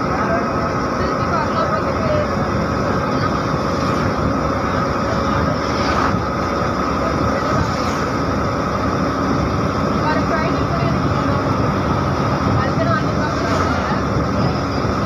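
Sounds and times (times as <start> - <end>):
bus engine and road rumble: 0.0 - 15.0
constant high whine: 0.0 - 15.0.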